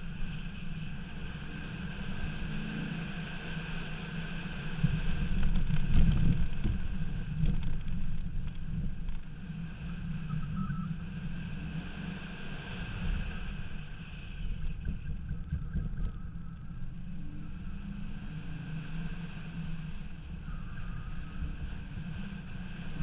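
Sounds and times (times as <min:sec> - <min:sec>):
car engine driven hard: 0:00.0 - 0:23.0.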